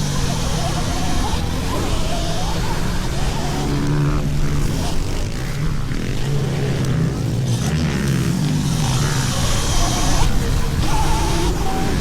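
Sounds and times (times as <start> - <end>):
pit bike engines droning: 0.0 - 12.0.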